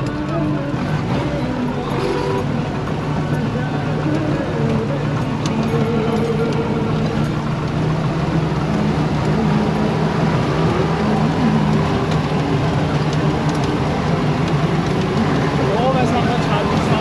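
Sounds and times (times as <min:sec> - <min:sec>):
car engine running: 0:00.0 - 0:17.0
rumbling road noise: 0:00.0 - 0:17.0.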